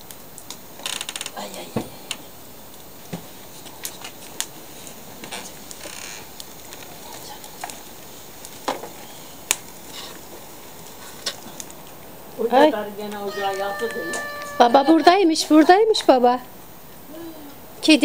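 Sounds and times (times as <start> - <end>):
faint steady hiss: 0.0 - 18.0
wood fire crackling: 0.0 - 18.0.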